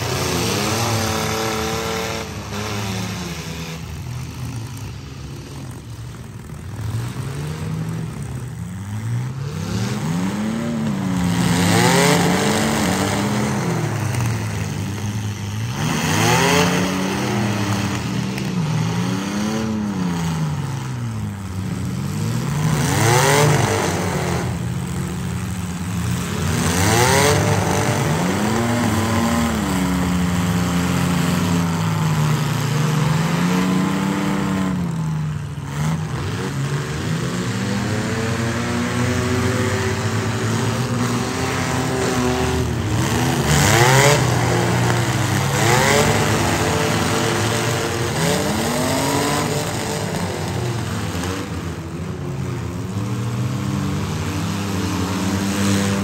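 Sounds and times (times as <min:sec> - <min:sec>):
engines revving hard: 0:00.0 - 0:56.0.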